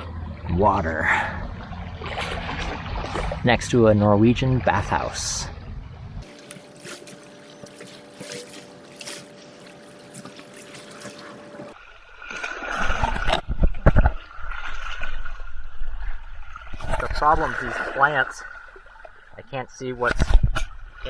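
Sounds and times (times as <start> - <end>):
water splashing: 0.0 - 20.7
seawater lapping at shoreline: 0.0 - 21.0.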